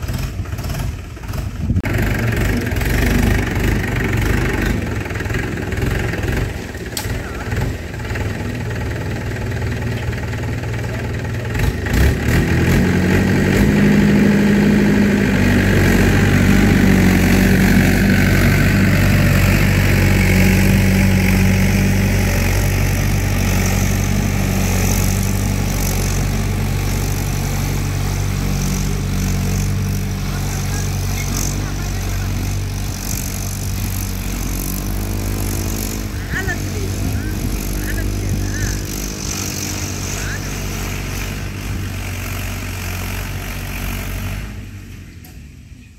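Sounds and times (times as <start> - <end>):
motor engine humming: 0.0 - 45.9.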